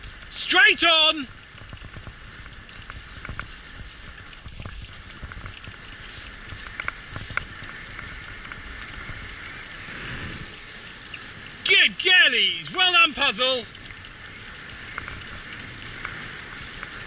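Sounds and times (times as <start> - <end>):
small clicks: 0.0 - 17.0
wheels crunching over trail: 0.0 - 17.0.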